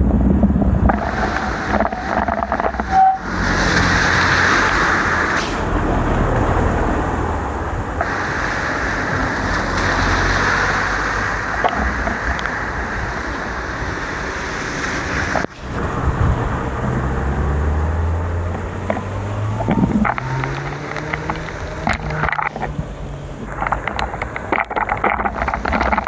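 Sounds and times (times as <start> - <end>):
heavy rain: 0.0 - 26.0
wet road noise: 0.0 - 26.0.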